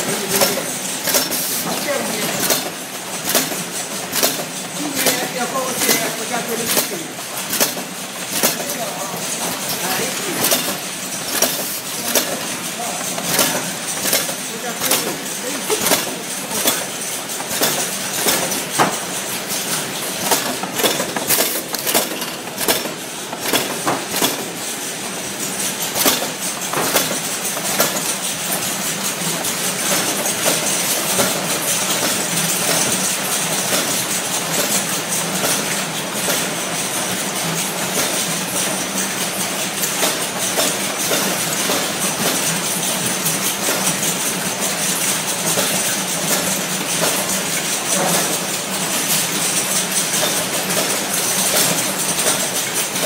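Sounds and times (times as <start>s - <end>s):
cartoning machine clattering: 0.0s - 53.0s.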